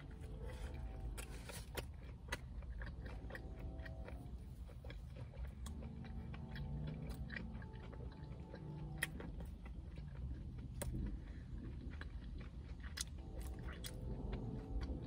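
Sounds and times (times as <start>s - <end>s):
low steady hum: 0.0s - 15.0s
person chewing food: 0.0s - 15.0s.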